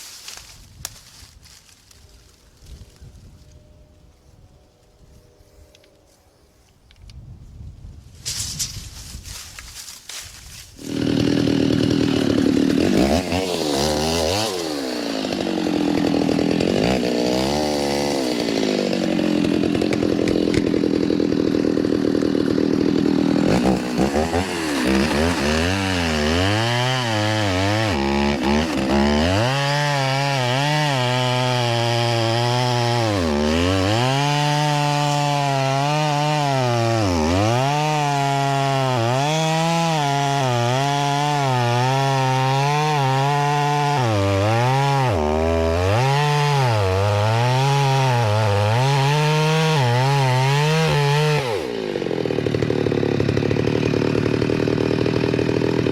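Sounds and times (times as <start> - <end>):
chainsaw cutting through log: 10.5 - 55.9.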